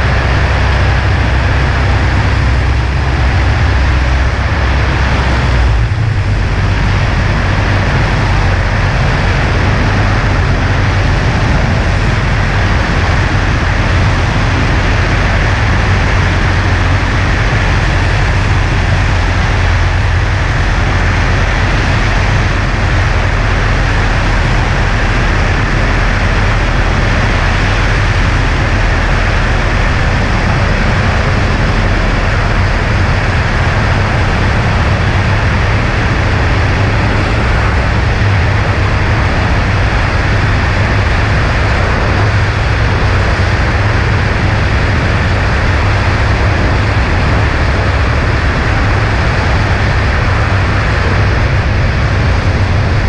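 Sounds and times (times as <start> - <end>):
light plane engine drone: 0.0 - 53.0
rushing wind noise: 0.0 - 53.0.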